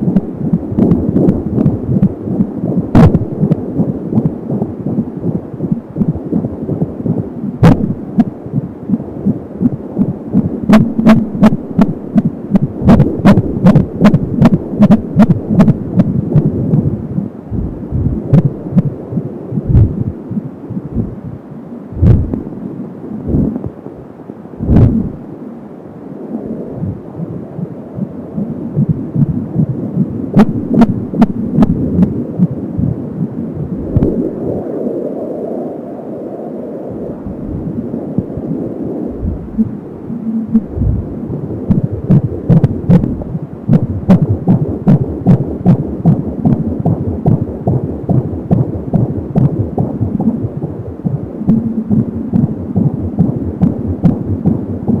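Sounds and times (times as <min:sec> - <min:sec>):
fetal heartbeat throbbing: 0:00.0 - 0:22.5, 0:23.2 - 0:23.8, 0:24.6 - 0:25.2, 0:26.7 - 0:34.4, 0:39.1 - 0:55.0.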